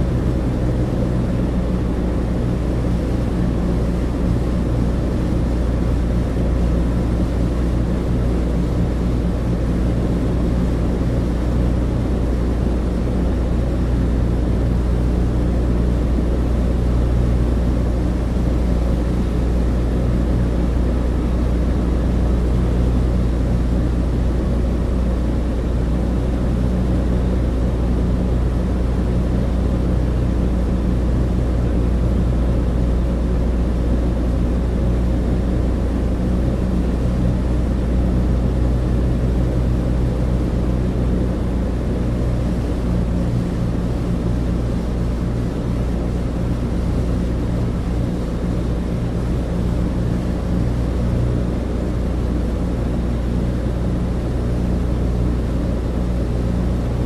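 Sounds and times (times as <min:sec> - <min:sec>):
propeller aircraft engines droning: 0:00.0 - 0:57.0.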